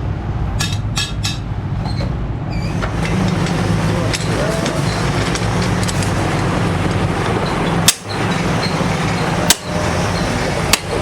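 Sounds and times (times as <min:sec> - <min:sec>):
workshop machine hum: 0:00.0 - 0:11.0.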